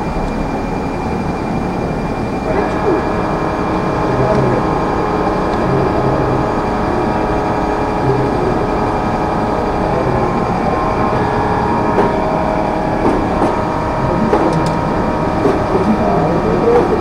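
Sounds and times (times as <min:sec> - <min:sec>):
loud mechanical drone: 0:00.0 - 0:17.0.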